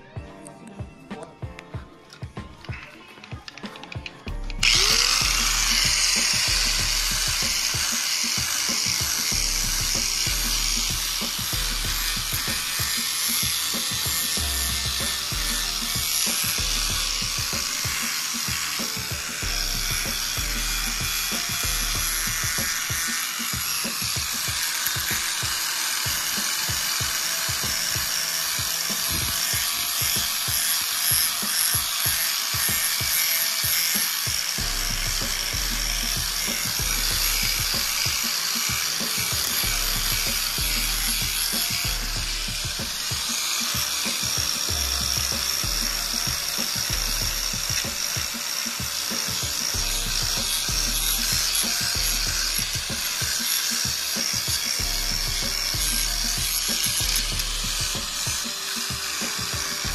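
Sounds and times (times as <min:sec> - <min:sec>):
background music with bass line: 0:00.0 - 0:59.9
angle grinder whining on metal: 0:03.2 - 0:59.9.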